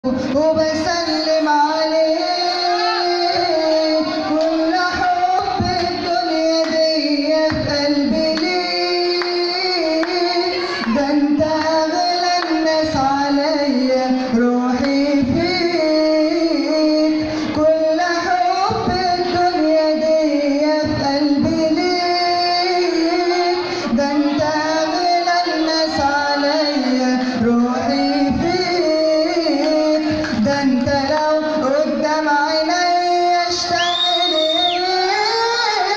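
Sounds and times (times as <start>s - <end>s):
man singing pop song: 0.0s - 35.9s.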